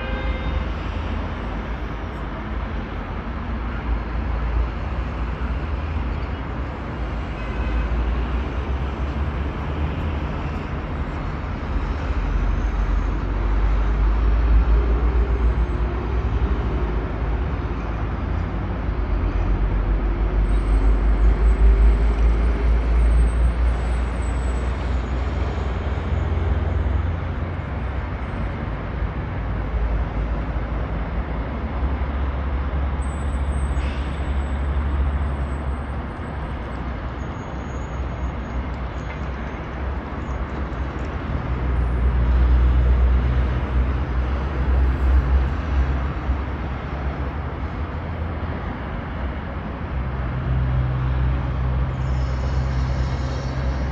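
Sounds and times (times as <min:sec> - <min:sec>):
deep traffic rumble: 0:00.0 - 0:53.9
dense highway traffic: 0:00.0 - 0:53.9.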